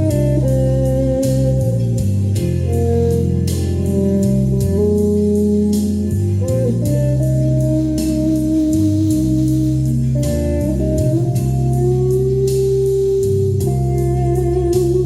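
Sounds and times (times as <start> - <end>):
bass: 0.0 - 15.0
guitar lead with slides: 0.0 - 15.0.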